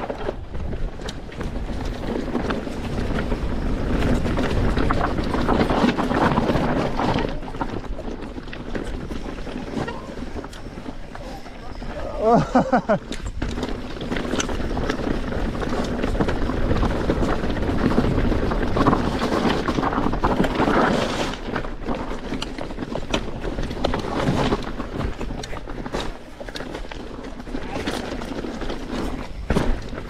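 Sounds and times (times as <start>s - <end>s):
bike rattling: 0.0s - 30.0s
tyres rolling over loose stones: 0.0s - 30.0s
wind noise on microphone: 0.0s - 30.0s.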